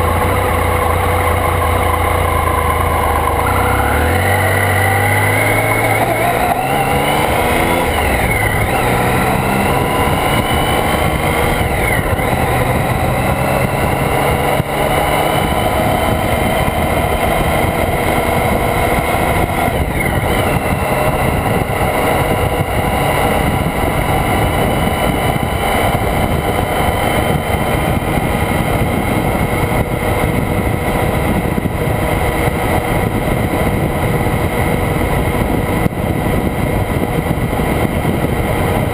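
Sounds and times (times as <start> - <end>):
motorcycle engine accelerating: 0.0 - 38.9
wind rush on microphone: 0.0 - 38.9.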